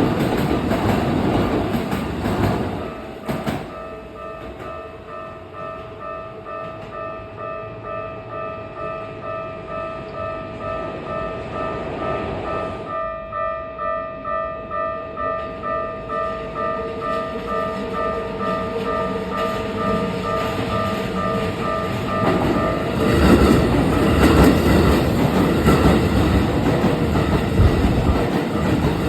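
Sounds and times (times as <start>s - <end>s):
train running noise: 0.0s - 13.3s, 14.1s - 29.0s
level-crossing alarm ringing: 2.8s - 29.0s.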